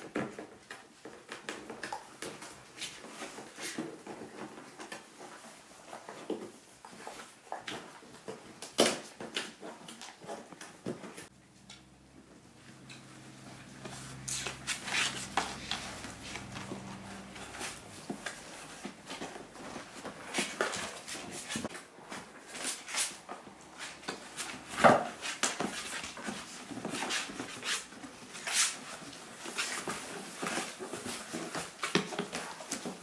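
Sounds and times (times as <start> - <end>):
puppies scratching on cardboard: 0.3 - 11.4, 12.4 - 33.0.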